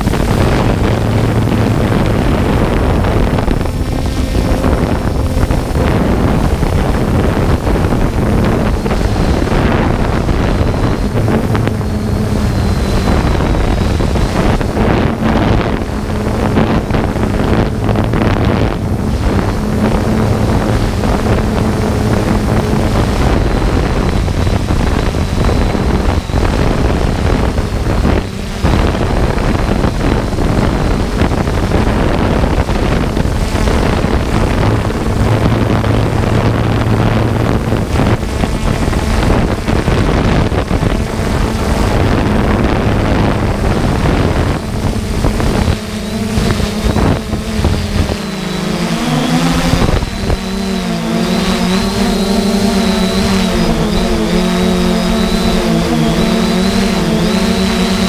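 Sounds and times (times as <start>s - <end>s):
drone motors and propellers: 0.0s - 58.0s
wind on microphone: 0.0s - 58.0s.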